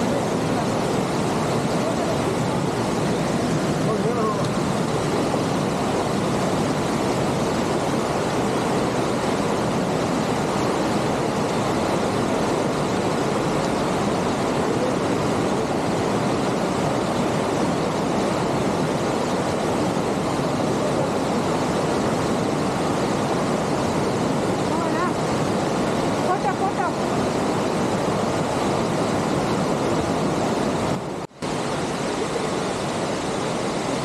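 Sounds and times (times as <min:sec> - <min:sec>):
creek rushing over rocks: 0:00.0 - 0:34.0.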